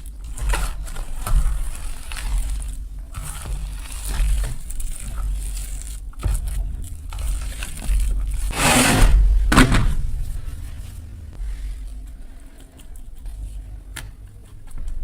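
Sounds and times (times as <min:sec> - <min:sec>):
chalk and petals crunching: 0:00.0 - 0:14.0.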